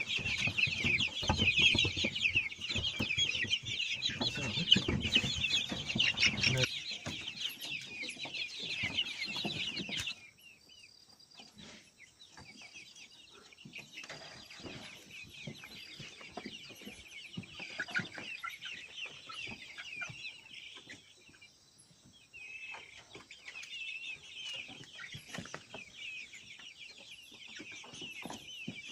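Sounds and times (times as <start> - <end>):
chickens calling: 0.0 - 28.9.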